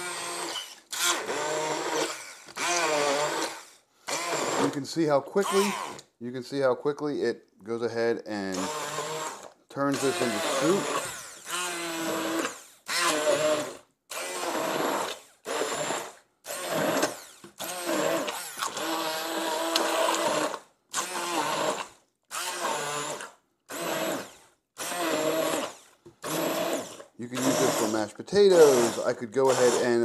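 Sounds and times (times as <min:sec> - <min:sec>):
stick blender motor bursts: 0:00.0 - 0:06.1, 0:08.5 - 0:30.0.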